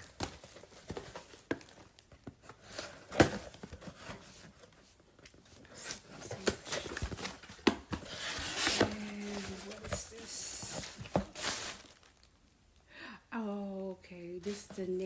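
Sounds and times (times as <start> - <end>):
packaging crinkling and rustling: 0.0 - 12.6.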